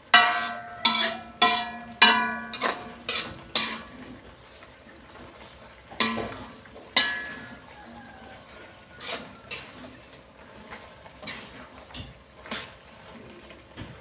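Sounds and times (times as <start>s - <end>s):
metal spatula scraping a wok: 0.0s - 13.4s.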